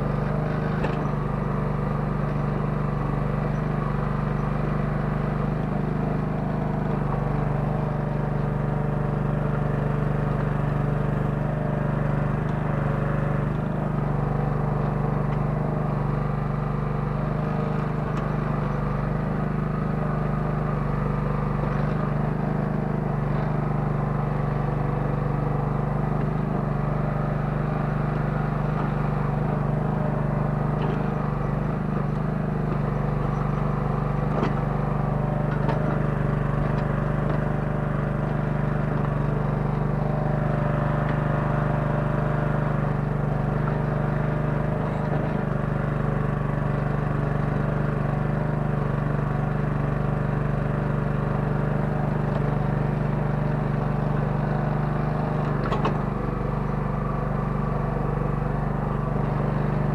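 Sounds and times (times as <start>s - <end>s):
mini excavator engine running: 0.0s - 59.9s.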